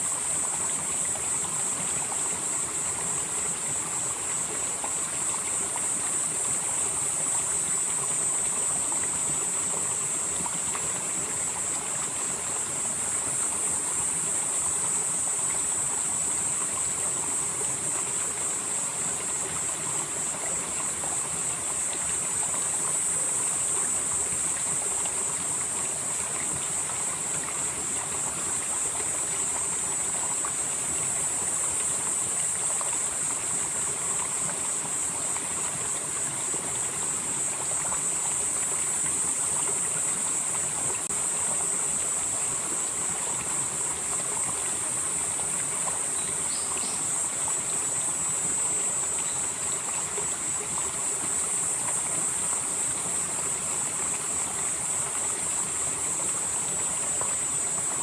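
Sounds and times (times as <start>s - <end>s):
high-pitched insect chorus: 0.0s - 58.0s
stream flowing: 0.0s - 58.0s.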